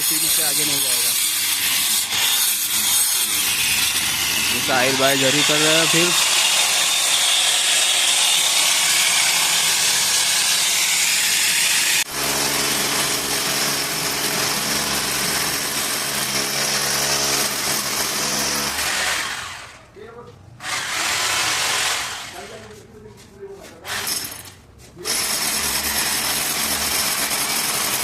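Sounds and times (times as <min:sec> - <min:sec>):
power tool grinding masonry: 0:00.0 - 0:19.6, 0:20.6 - 0:22.6, 0:23.9 - 0:28.0.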